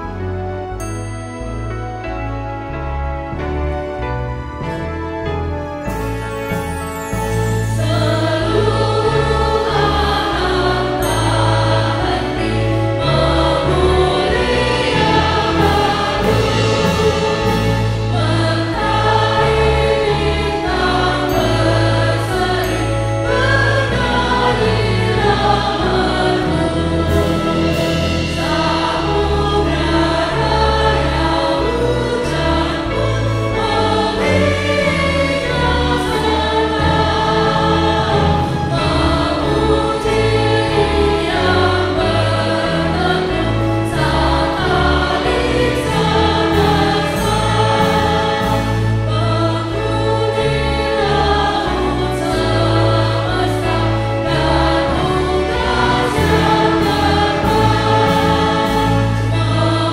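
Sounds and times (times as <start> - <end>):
sustained low bass notes: 0.0 - 59.9
congregation singing a hymn: 4.6 - 59.9.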